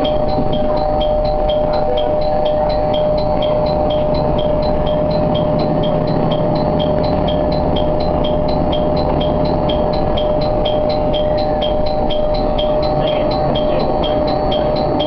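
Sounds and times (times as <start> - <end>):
railcar rumbling with whine: 0.0 - 15.0
two-tone ding: 0.0 - 15.0.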